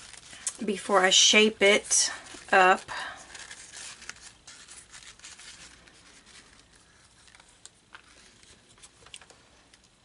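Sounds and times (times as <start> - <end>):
ribbon rustling and crinkling: 0.0 - 10.0.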